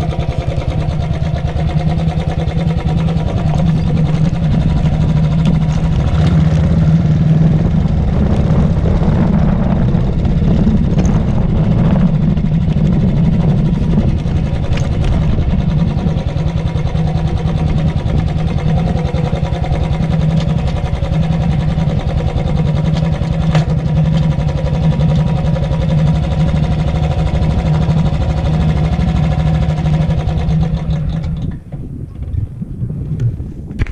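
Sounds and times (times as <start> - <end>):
motorcycle engine thumping: 0.0 - 33.9.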